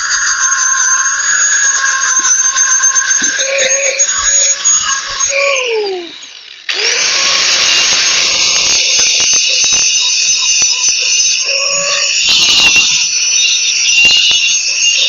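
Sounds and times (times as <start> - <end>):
power tool whining: 0.0 - 15.0.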